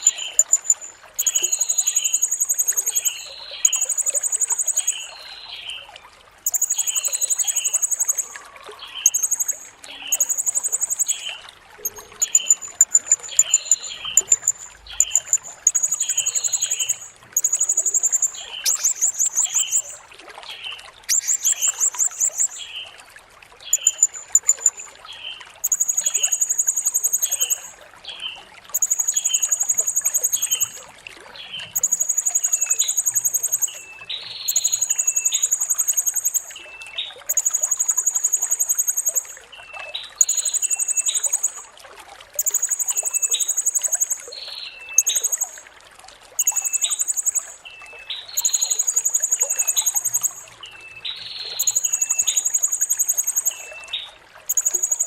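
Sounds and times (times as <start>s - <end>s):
lower bird chirp: 0.0s - 5.8s, 6.4s - 20.0s, 21.1s - 22.9s, 23.7s - 30.9s, 31.5s - 41.7s, 42.4s - 45.6s, 46.4s - 55.0s.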